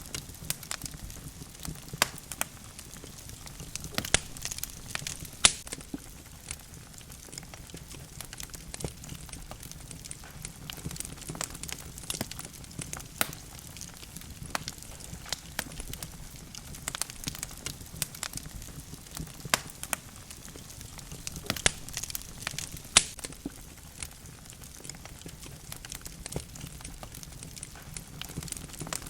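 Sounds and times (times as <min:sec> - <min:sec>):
logs crackling and popping: 0:00.0 - 0:29.0
low rumble of flames: 0:00.0 - 0:29.0.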